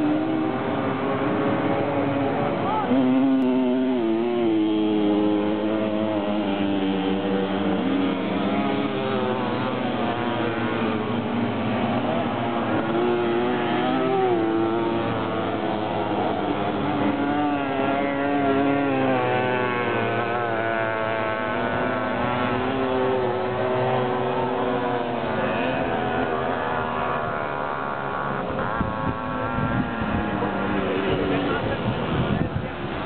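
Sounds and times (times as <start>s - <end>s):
moped engines buzzing and revving: 0.0s - 33.0s.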